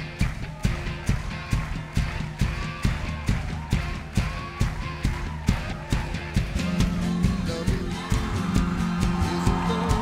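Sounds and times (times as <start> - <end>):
drum kit beat: 0.0 - 10.0
live rock band playing: 0.0 - 10.0.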